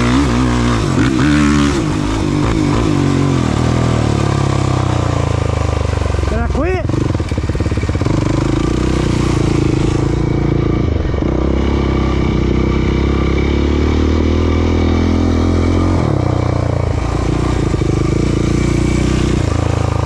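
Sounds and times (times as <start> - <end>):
racing vehicle engine running: 0.0 - 20.0.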